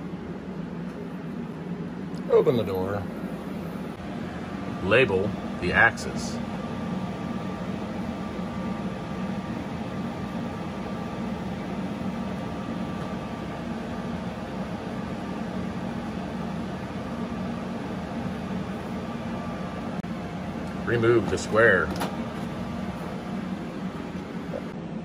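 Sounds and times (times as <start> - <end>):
air compressor humming: 0.0 - 25.0
water chiller humming: 0.0 - 25.0.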